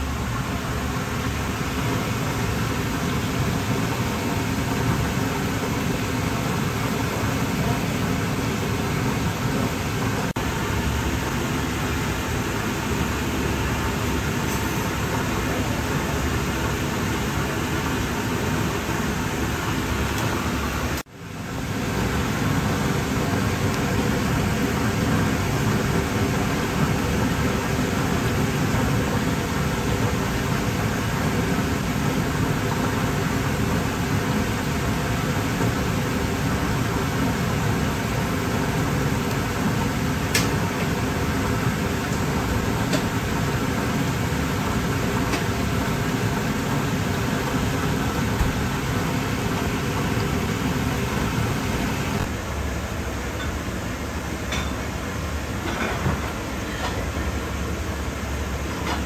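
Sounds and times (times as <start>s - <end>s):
oil bubbling and sizzling: 0.0s - 57.6s.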